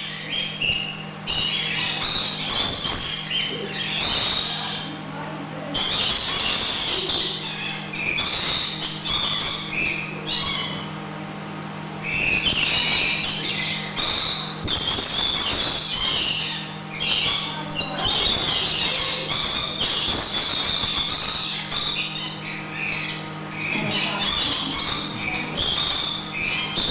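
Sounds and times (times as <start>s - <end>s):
lorikeets screeching: 0.0s - 5.0s, 5.6s - 11.0s, 12.0s - 26.9s
steady low hum: 0.0s - 26.9s.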